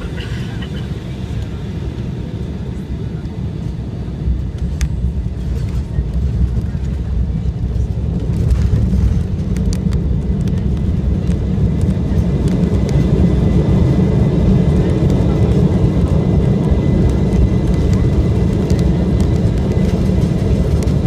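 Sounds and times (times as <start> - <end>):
airliner engine and airflow rumble: 0.0 - 21.0.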